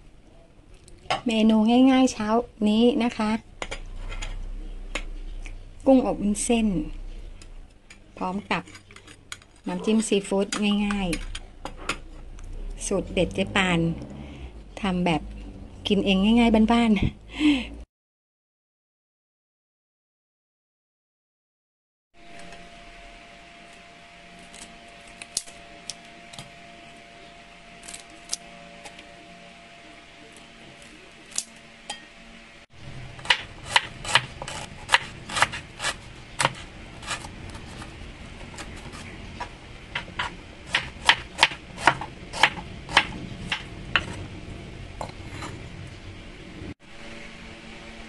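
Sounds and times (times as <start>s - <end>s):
faint steady hum: 0.0s - 17.8s, 22.2s - 48.0s.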